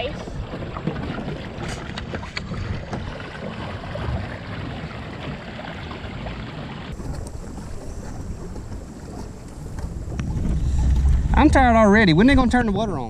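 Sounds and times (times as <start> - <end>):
water washing along hull: 0.0 - 13.0
wind buffeting microphone: 0.0 - 13.0.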